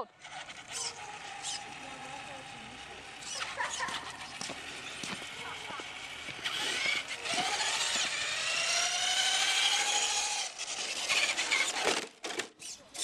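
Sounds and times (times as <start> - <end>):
electric motor whining: 0.0 - 12.8.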